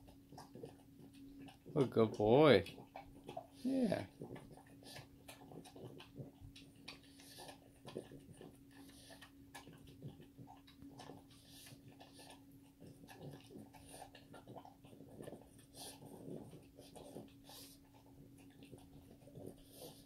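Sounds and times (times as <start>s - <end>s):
dog chewing: 0.0s - 20.0s.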